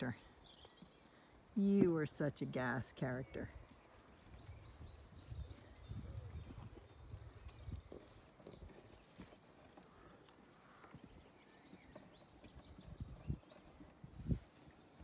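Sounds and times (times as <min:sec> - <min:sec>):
small birds trilling: 0:02.1 - 0:15.0.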